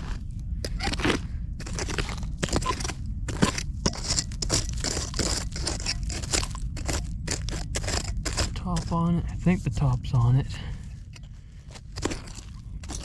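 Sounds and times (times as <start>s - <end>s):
soil crunching and scraping: 0.0s - 13.0s.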